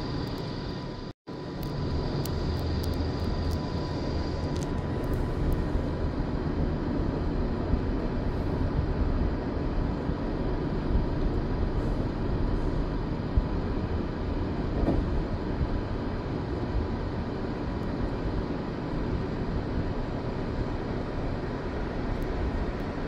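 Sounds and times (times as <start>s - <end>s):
passenger train rumble and roar: 0.0s - 23.0s.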